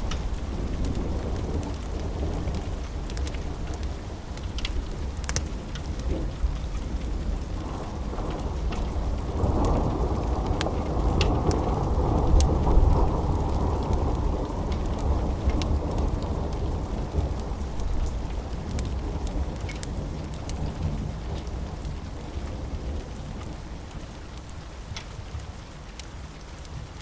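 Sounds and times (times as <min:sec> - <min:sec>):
rolling thunder: 0:00.0 - 0:24.1
steady rain: 0:00.0 - 0:27.0.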